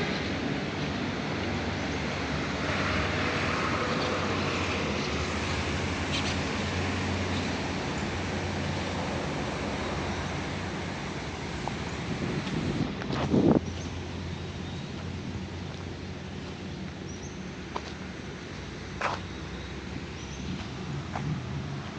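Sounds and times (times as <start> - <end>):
hiss of passing vehicles: 0.0 - 21.9
low engine rumble: 0.0 - 21.9.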